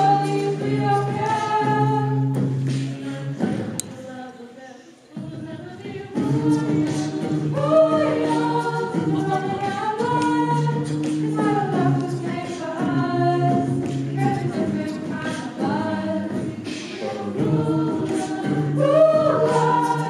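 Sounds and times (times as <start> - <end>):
group singing in harmony: 0.0 - 20.0.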